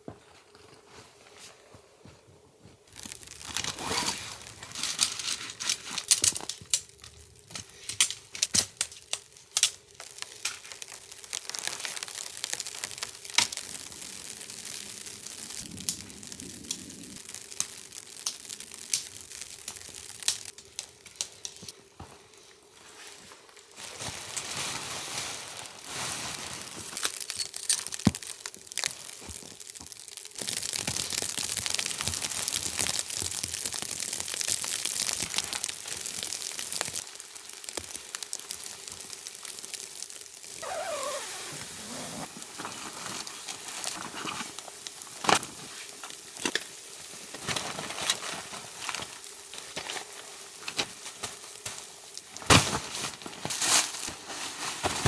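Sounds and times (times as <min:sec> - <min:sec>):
tent fabric crinkling and rustling: 0:00.0 - 0:55.0.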